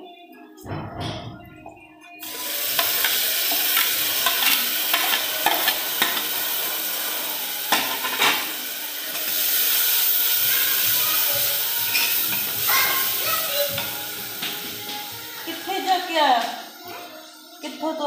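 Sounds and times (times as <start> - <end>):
tomato sizzling in hot oil: 2.2 - 16.8.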